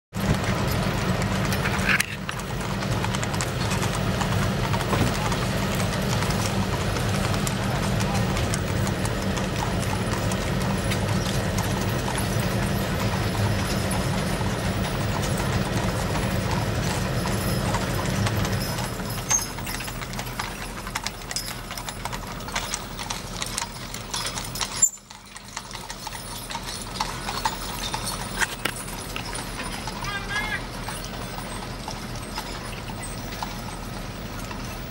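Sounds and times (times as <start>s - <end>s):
horse hooves clip-clopping on asphalt: 0.1s - 34.9s.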